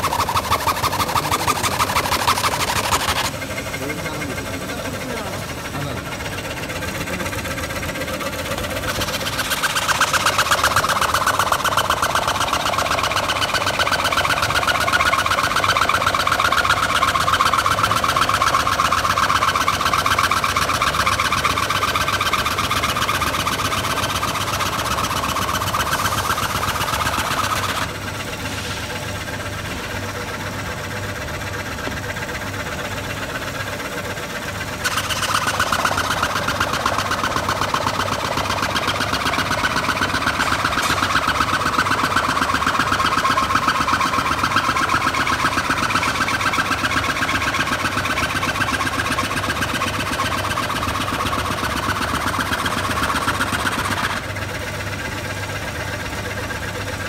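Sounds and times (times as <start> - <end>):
band saw cutting cardboard: 0.0 - 54.4.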